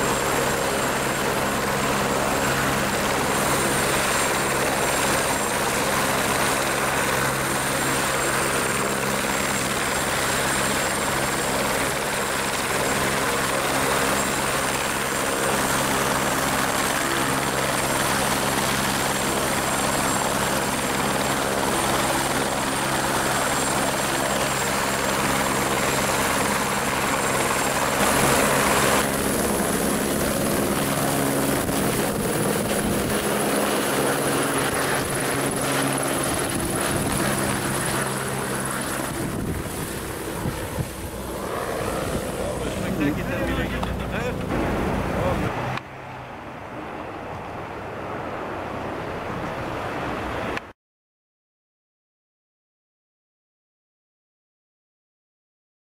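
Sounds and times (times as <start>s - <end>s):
helicopter turbine and rotor: 0.0s - 50.8s.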